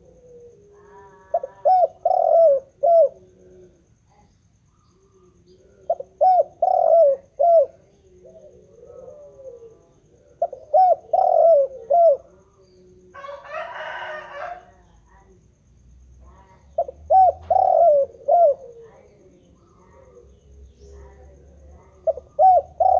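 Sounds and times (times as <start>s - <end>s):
dove cooing: 0.0s - 15.3s, 16.3s - 22.9s.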